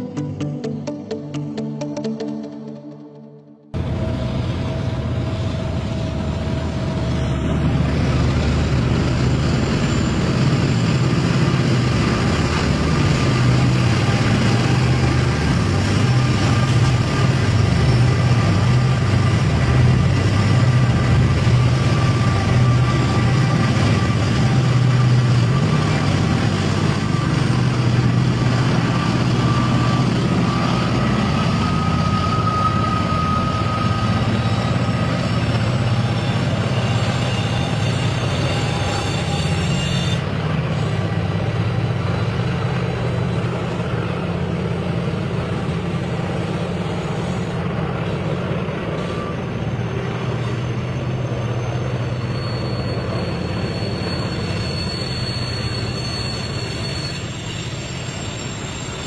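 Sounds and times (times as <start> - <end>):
locomotive engine drone: 0.0 - 59.0.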